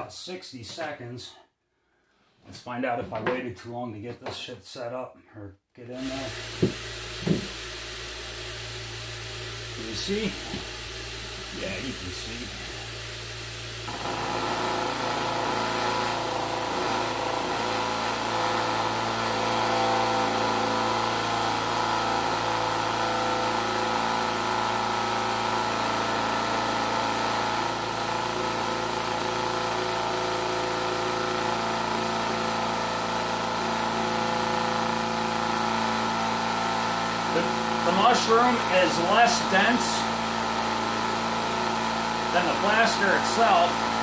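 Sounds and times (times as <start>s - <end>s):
electric vibrator humming: 6.1s - 44.0s.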